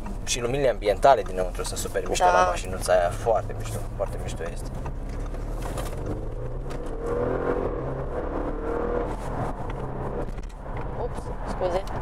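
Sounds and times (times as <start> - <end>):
car engine inside cabin: 0.0 - 12.0
road noise: 0.0 - 12.0.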